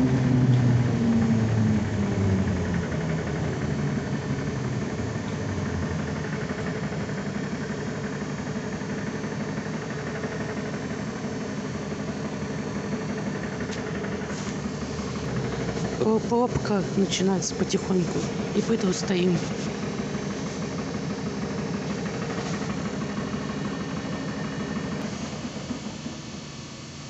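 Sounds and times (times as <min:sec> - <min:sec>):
low drone: 0:00.0 - 0:26.2
trolleybus cabin hum and rumble: 0:00.0 - 0:26.3.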